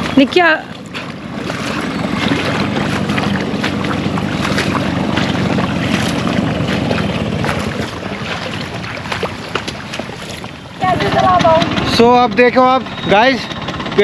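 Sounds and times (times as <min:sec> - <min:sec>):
water splashing: 0:00.0 - 0:13.2
scooter engine running: 0:00.0 - 0:14.0.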